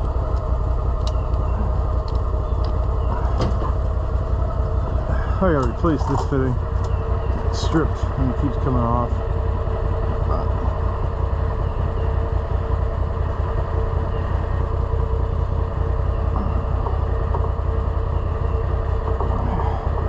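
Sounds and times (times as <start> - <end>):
utility vehicle engine idling: 0.0 - 20.0.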